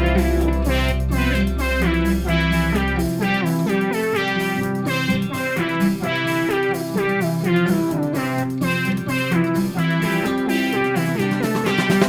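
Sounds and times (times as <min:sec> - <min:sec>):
plucked electric guitar music: 0:00.0 - 0:12.0.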